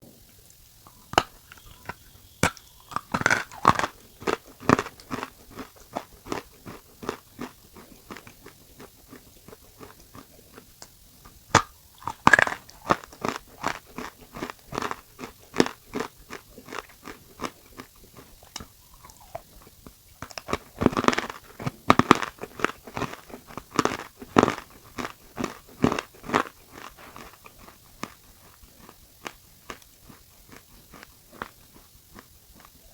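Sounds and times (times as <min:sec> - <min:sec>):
crunching and chewing food: 0:00.0 - 0:32.9.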